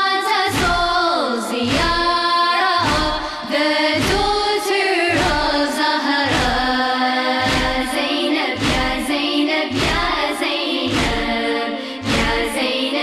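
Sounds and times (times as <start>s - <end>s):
women singing a lament: 0.0s - 13.0s
steady low thump: 0.5s - 1.0s, 1.6s - 2.2s, 2.8s - 12.7s.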